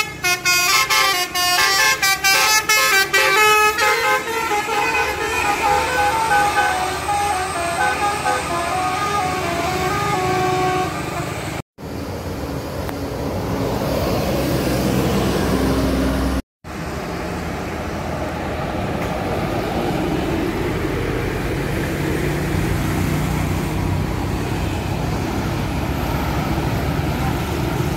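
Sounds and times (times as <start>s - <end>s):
buses and truck driving past: 0.0s - 27.9s.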